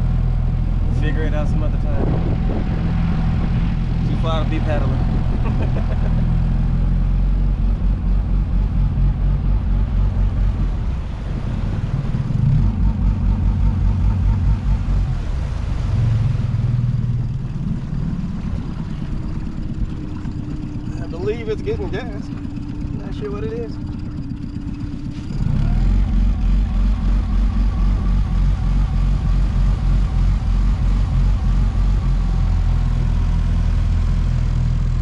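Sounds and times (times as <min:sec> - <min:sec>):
outboard motor sputtering: 0:00.0 - 0:35.0.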